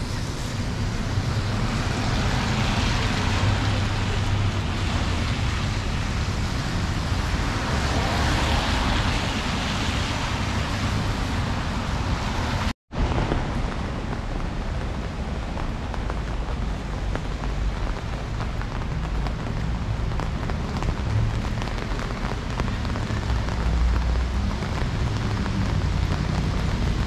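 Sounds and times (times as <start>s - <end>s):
heavy rain hissing: 0.0s - 27.0s
traffic passing on wet road: 0.0s - 27.0s.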